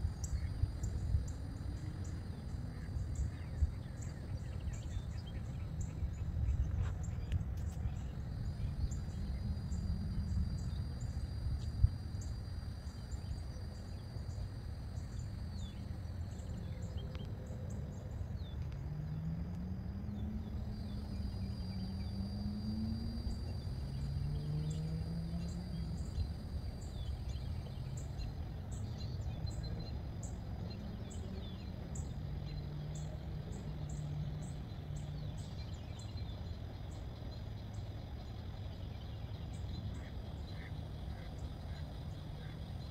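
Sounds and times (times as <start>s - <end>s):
low wavering drawn-out tones: 0.0s - 37.0s
continuous high buzz: 0.0s - 42.9s
insects chirping: 0.0s - 42.9s.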